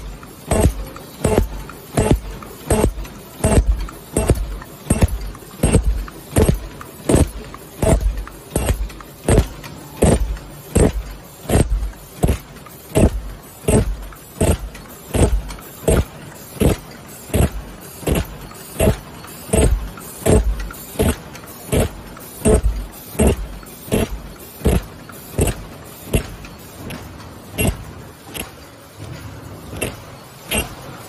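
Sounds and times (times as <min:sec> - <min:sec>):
machine clanking and thumping: 0:00.0 - 0:31.0
steady machine hum: 0:00.0 - 0:31.0.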